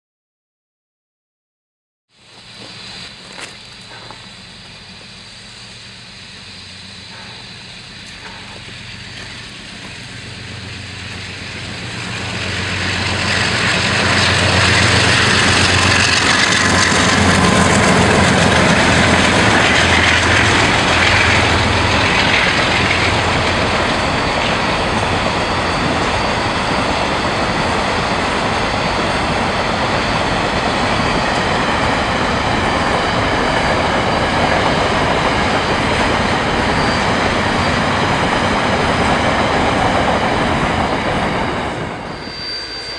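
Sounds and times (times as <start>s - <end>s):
diesel locomotive engine drone: 2.1s - 42.9s
train wheels rolling on rails: 2.2s - 42.9s.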